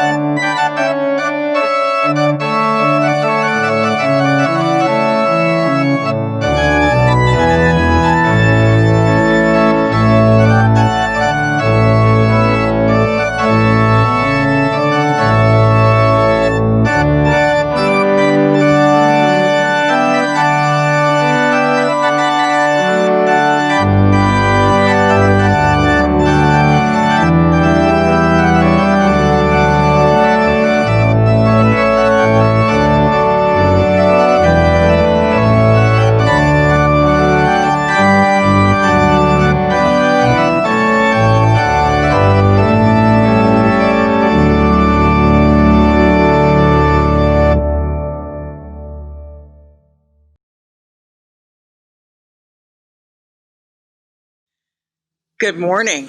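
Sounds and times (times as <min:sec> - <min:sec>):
organ music: 0:00.0 - 0:49.8, 0:55.4 - 0:56.0.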